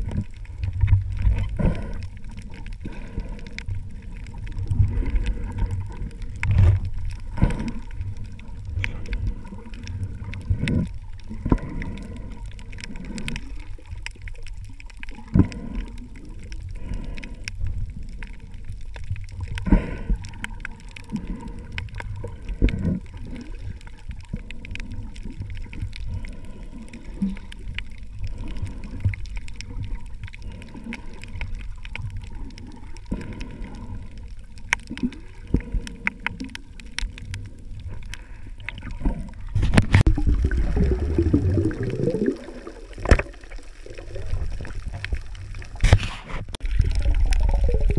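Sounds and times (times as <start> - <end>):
fine crackling clicks: 0.0 - 40.4, 41.6 - 47.9
muffled underwater water movement: 0.0 - 47.9.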